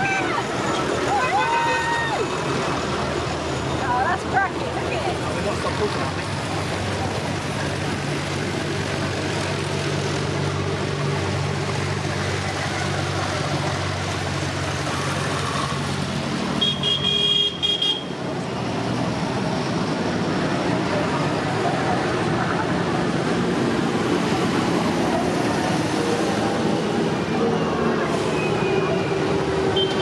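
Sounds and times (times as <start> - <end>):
tractors driving past: 0.0 - 30.0.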